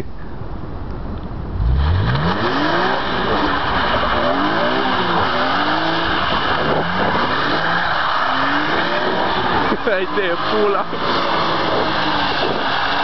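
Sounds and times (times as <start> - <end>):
car engine revving: 1.4 - 13.0.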